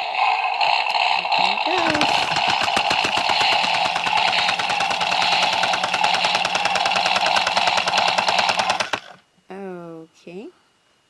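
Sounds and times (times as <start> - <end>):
toy truck motor rattling: 0.0 - 9.2.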